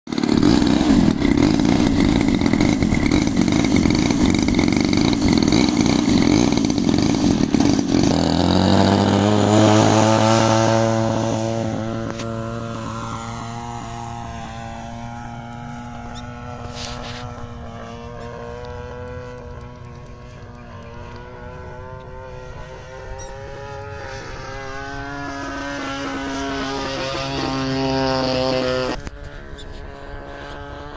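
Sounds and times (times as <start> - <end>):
model aircraft engine droning: 0.1 - 30.9.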